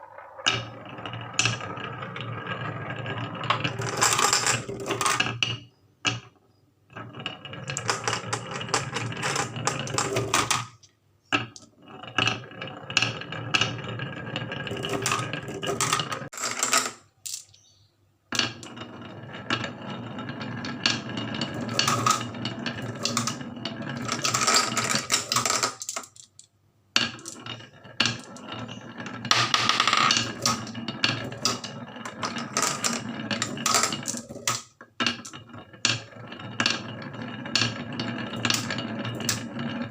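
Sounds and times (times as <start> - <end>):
marbles rolling down marble run: 0.0 - 6.3, 6.9 - 10.8, 11.4 - 17.4, 18.4 - 39.9.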